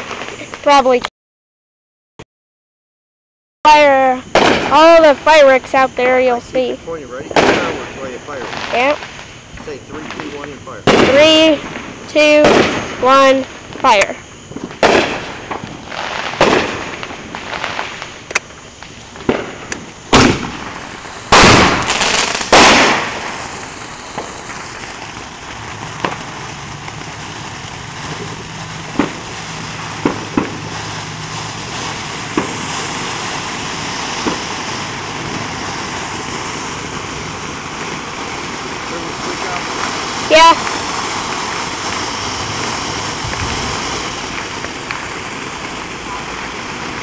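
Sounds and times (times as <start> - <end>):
fireworks banging: 0.0 - 1.1, 3.7 - 47.0
fountain fireworks hissing: 0.0 - 1.1, 3.7 - 47.0
scattered firework pops: 0.0 - 1.1, 4.3 - 5.5, 7.2 - 47.0.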